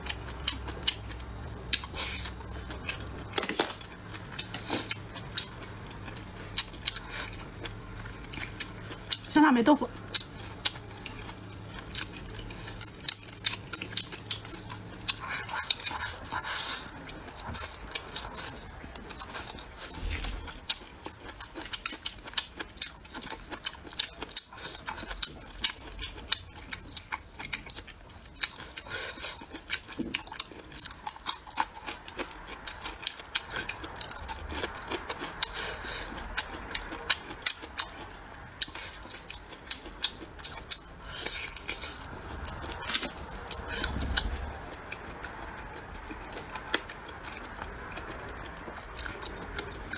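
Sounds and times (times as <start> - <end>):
wet chewing: 0.0 - 49.9.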